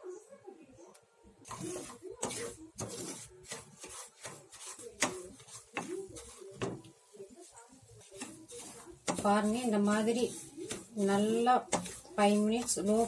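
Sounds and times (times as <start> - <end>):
spoon scraping semolina in pan: 1.4 - 13.0.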